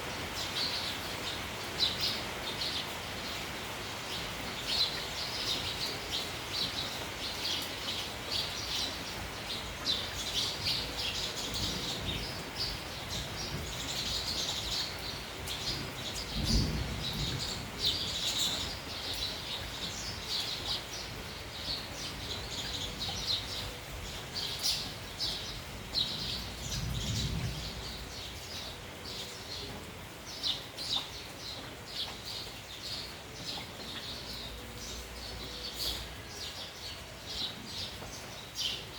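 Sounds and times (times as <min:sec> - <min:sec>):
rain and wind hiss: 0:00.0 - 0:38.9
sparrows chirping: 0:00.2 - 0:38.9.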